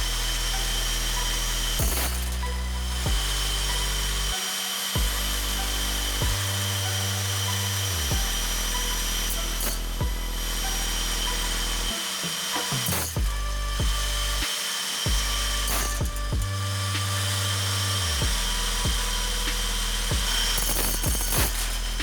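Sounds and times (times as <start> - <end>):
angle grinder whining: 0.0 - 22.0
background music with bass line: 0.0 - 22.0.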